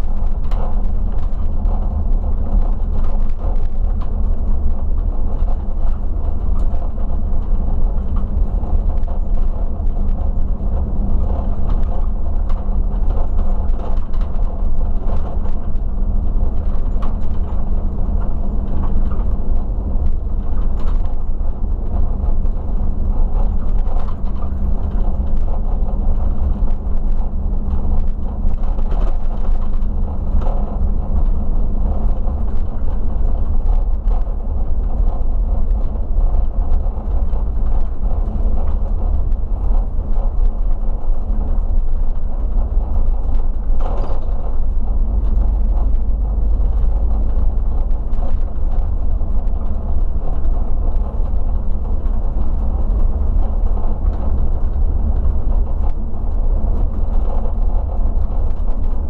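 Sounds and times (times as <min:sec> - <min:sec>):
coach engine and road rumble: 0:00.0 - 0:59.0
light clicks and rattles: 0:00.1 - 0:56.0.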